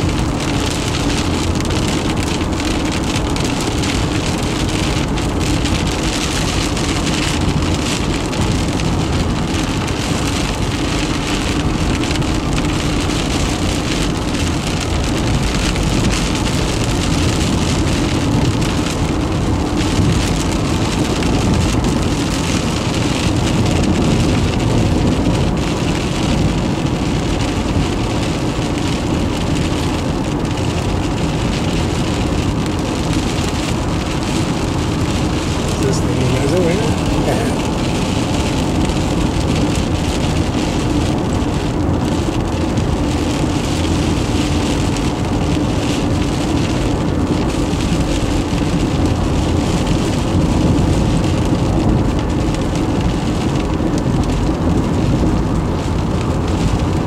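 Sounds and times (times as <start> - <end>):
rain pattering on a car: 0.0 - 57.0
road and tyre noise: 0.0 - 57.0.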